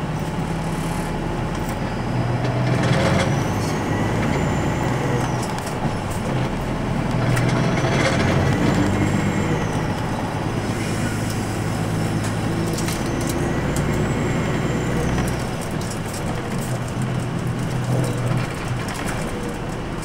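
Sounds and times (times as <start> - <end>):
bus diesel engine drone: 0.0 - 20.0.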